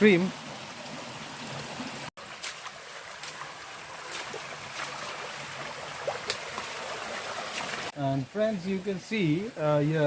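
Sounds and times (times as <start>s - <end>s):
stream trickling and rushing: 0.0s - 10.0s.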